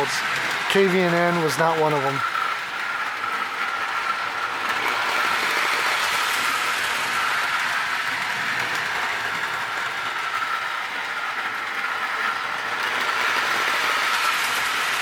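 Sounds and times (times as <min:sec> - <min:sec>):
toy train motor whine: 0:00.0 - 0:15.0
wheels rumbling on rails: 0:00.0 - 0:15.0.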